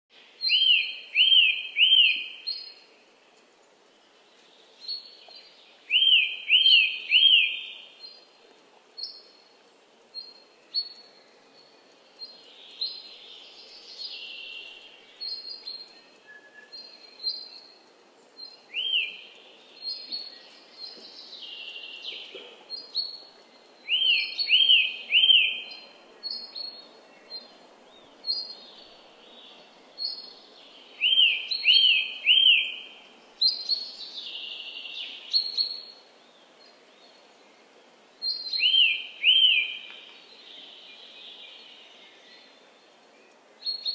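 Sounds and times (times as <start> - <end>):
faint steady hiss: 0.1 - 43.9
birds chirping and warbling: 0.2 - 43.9.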